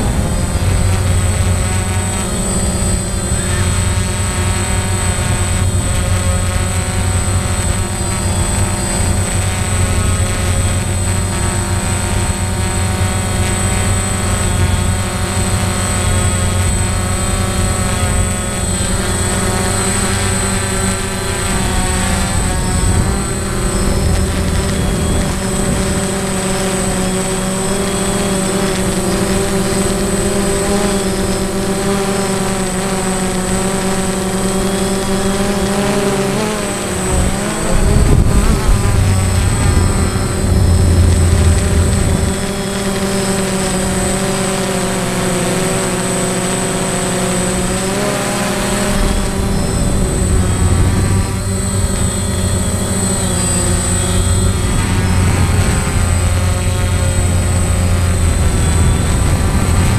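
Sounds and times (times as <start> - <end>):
drone propellers whining: 0.0 - 59.9.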